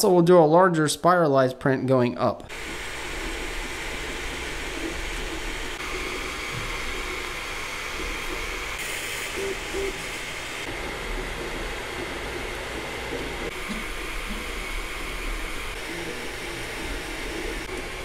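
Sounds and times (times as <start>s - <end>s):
cooling fans whirring: 2.5s - 18.0s
faint motor tones: 2.5s - 18.0s.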